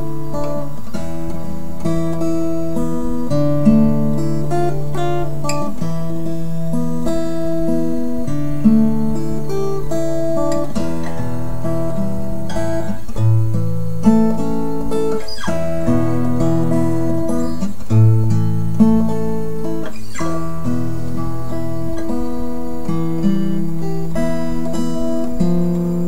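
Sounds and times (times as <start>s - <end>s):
acoustic guitar plucking: 0.0s - 26.0s.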